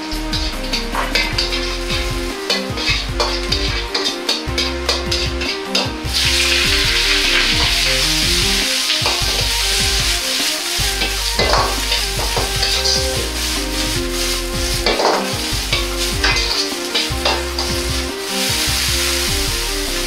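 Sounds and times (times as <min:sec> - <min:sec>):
background music: 0:00.0 - 0:20.0
cabbage sizzling in a wok: 0:00.0 - 0:20.0
metal ladle scraping wok: 0:00.0 - 0:20.0.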